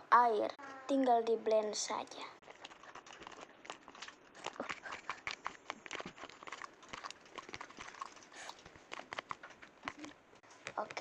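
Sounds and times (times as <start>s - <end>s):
clay and water mixed in bowl: 1.7s - 11.0s.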